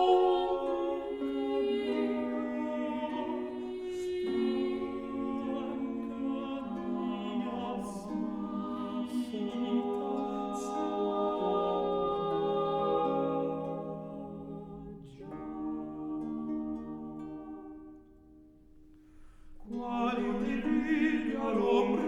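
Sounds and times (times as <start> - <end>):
voices singing in polyphony: 0.0 - 17.5, 19.6 - 22.0.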